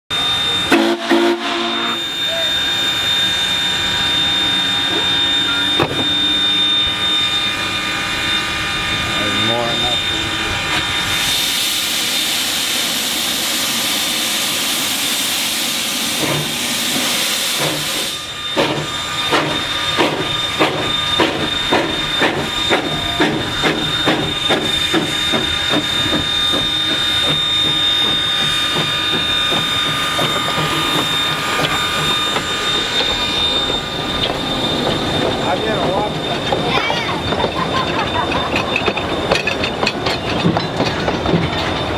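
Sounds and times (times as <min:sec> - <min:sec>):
steady high-pitched tone: 0:00.1 - 0:41.9
steam locomotive exhaust chuffs: 0:00.1 - 0:41.9
steam hissing: 0:00.2 - 0:40.5.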